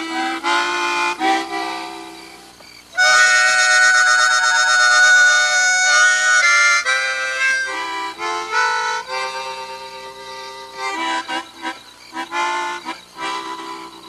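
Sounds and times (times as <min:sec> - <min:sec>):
harmonica slow melody: 0:00.0 - 0:14.0.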